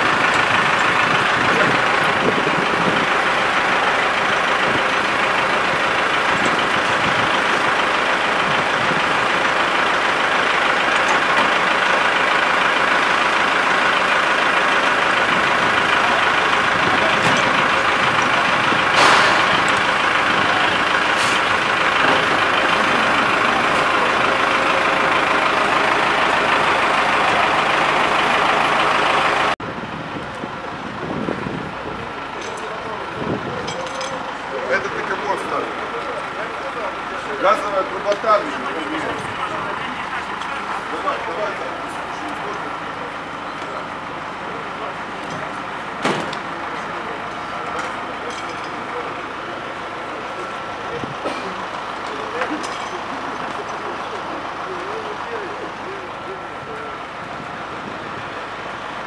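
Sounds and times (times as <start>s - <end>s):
fire engine running: 0.0s - 59.0s.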